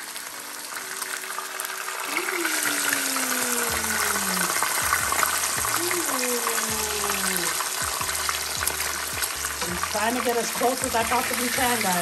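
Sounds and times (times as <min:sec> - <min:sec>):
fish deep-frying in oil: 0:00.0 - 0:12.0.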